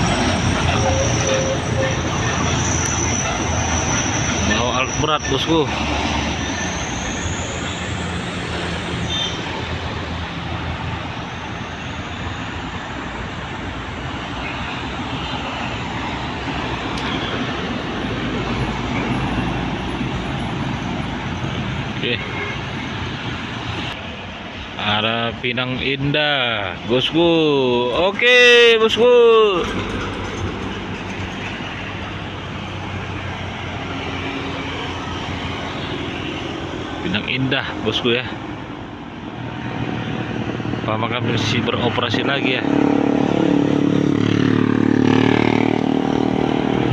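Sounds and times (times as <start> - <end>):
heavy truck passing: 0.0 - 25.1, 26.7 - 46.9
heavy vehicle engine rumble: 0.0 - 46.9
traffic noise: 0.0 - 46.9
tyre and road noise: 0.0 - 46.9.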